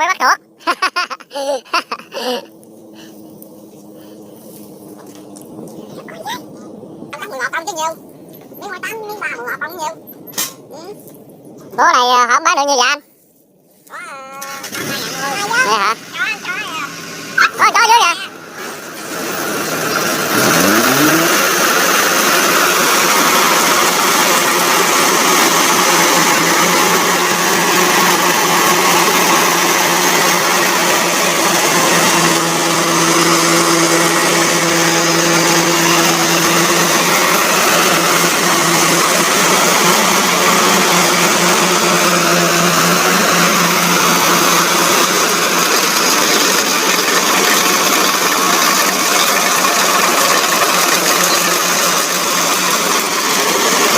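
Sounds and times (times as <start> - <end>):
combine harvester running: 0.0 - 13.2, 13.8 - 53.9.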